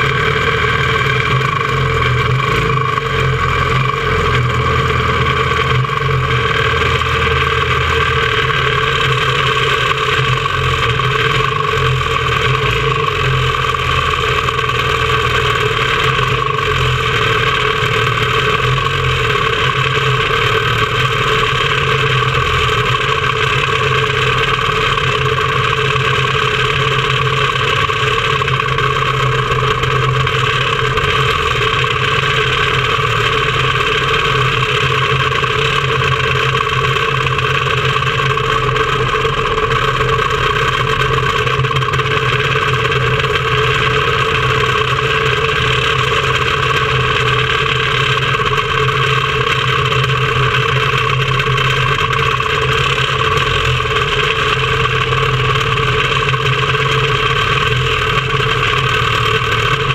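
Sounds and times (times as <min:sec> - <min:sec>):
race car engines idling: 0:00.0 - 0:59.9.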